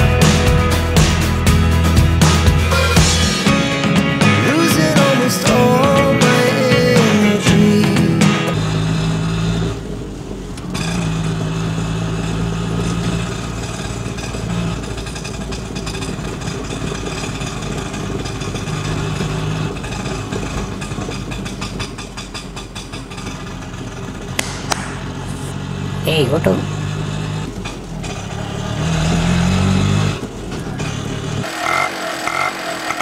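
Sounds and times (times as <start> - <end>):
auto-rickshaw engine running: 0.0 - 33.0.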